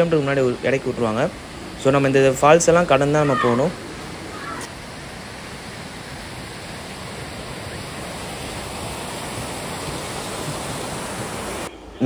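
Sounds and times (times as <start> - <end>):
waterfall rushing over rocks: 0.0 - 11.7.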